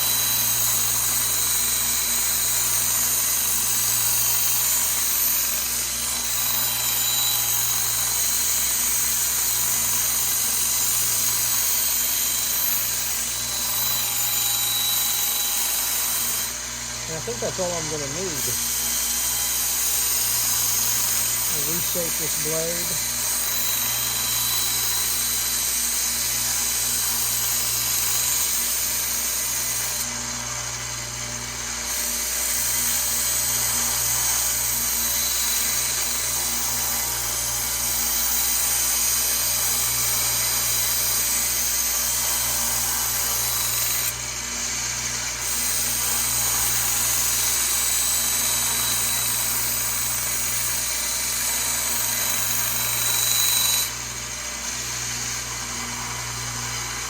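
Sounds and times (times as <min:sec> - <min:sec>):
belt sander motor hum: 0:00.0 - 0:57.0.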